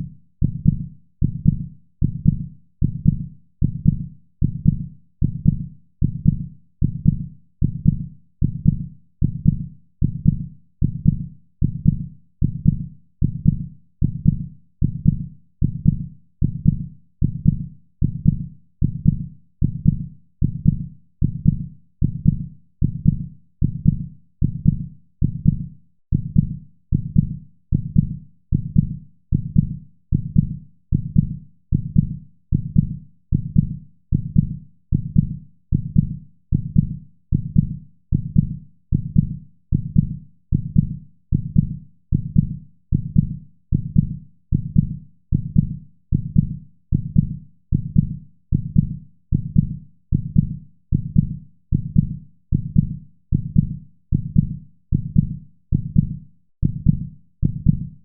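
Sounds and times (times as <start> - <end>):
heartbeat thuds: 0.0 - 57.9.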